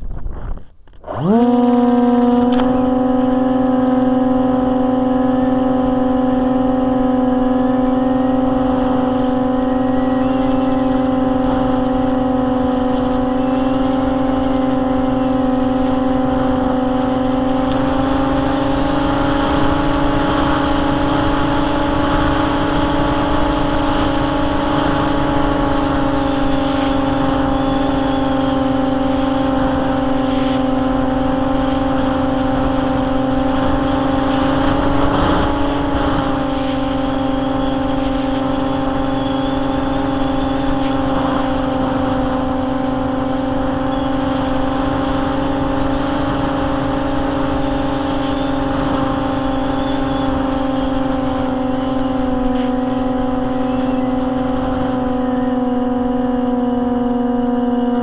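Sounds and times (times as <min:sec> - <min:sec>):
wind noise on microphone: 0:00.0 - 0:58.0
model plane motor high pitch: 0:00.6 - 0:58.0.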